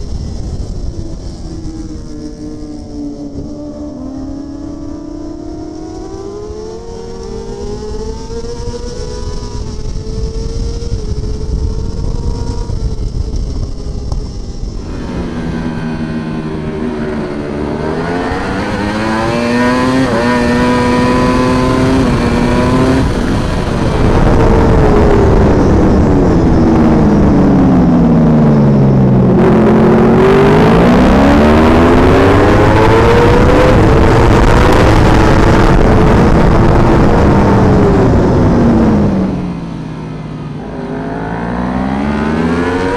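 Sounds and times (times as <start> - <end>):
racing motorcycle engine revving: 0.0 - 42.9
steady rushing noise: 0.0 - 42.9.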